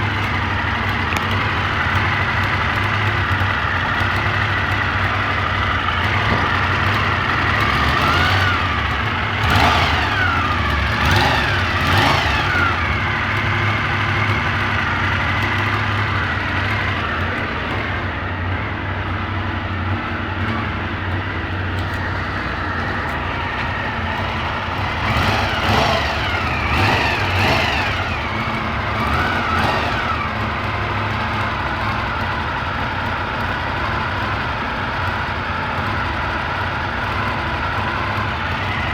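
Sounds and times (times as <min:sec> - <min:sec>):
engine throttle blips: 0:00.0 - 0:38.9
motorcycle engine idling: 0:00.0 - 0:38.9
strange exhaust noise: 0:00.0 - 0:38.9.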